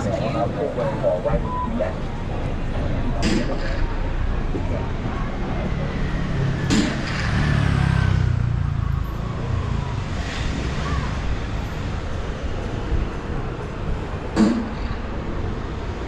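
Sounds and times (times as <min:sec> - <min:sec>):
faint falling whine of vehicle: 0:00.0 - 0:16.0
low vehicle rumble: 0:00.0 - 0:16.0.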